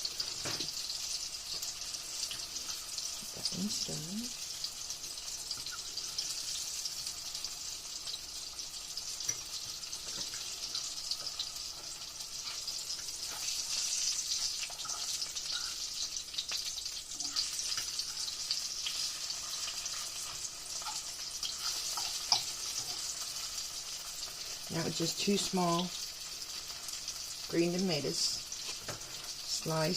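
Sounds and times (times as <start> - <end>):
food sizzling in frying oil: 0.0 - 29.9.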